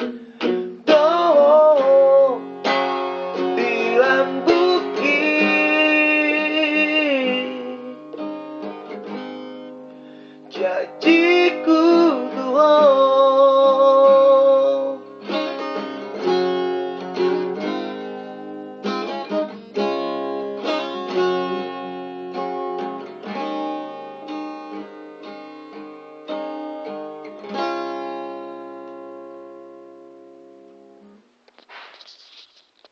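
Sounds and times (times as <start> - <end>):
guitar strumming and picking: 0.0 - 32.3.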